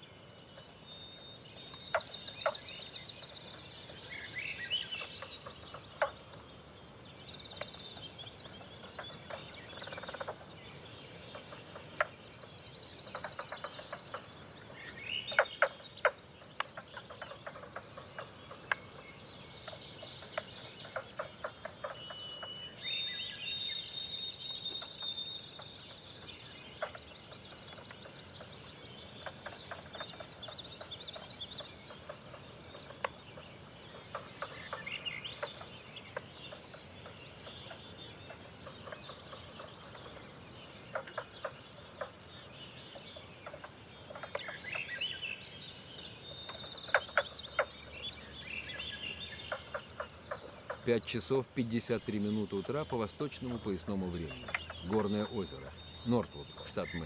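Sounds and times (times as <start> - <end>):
songbirds trilling and chirping: 0.0 - 57.0.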